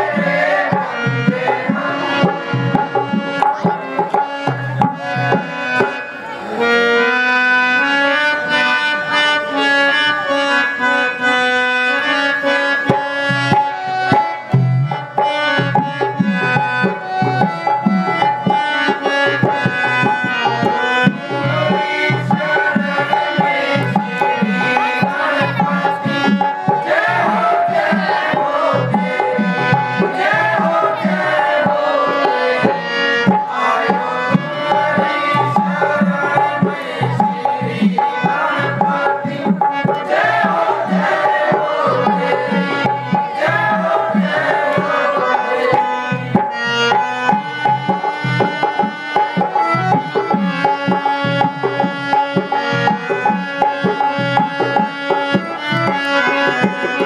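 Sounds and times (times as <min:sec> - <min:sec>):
harmonium chords: 0:00.0 - 0:57.0
tabla rhythm: 0:00.0 - 0:57.0.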